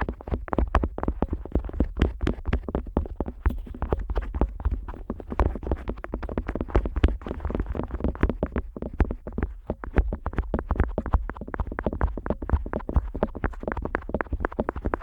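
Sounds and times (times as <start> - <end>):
scratchy clicks and knocks on microphone: 0.0 - 15.0.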